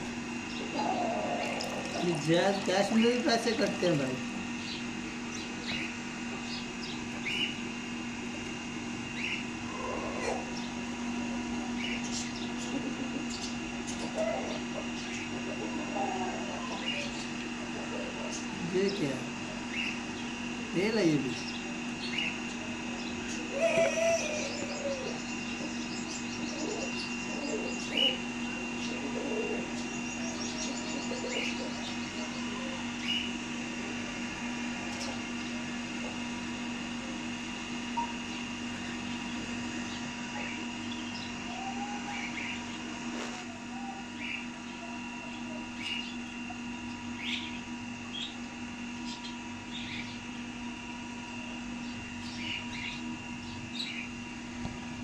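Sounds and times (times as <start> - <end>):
steady low hum: 0.0 - 55.0
small birds chirping: 0.3 - 54.3.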